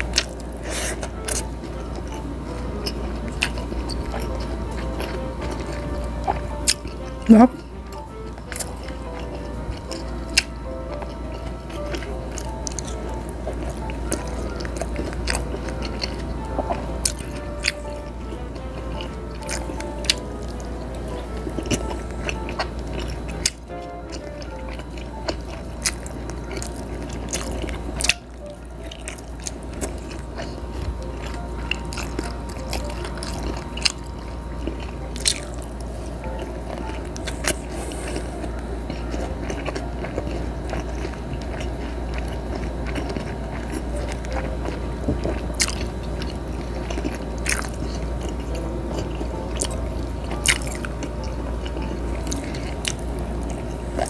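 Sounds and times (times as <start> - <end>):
chewing and biting food: 0.0 - 54.0
steady low hum: 0.0 - 54.0.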